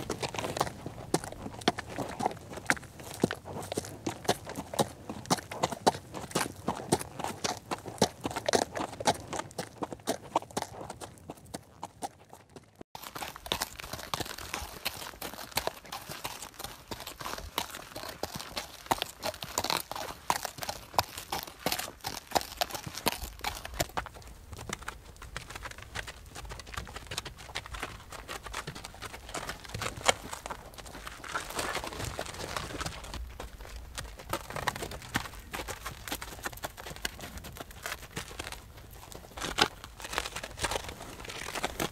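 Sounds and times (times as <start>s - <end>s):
horse hooves clip-clopping: 0.0s - 41.9s.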